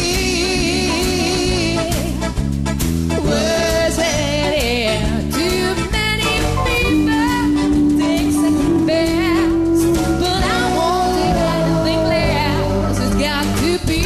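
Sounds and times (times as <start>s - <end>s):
song with singer and band: 0.0s - 14.0s.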